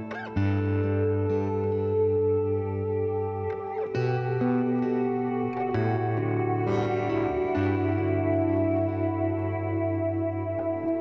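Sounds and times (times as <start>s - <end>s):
ambient instrumental music: 0.0s - 11.0s.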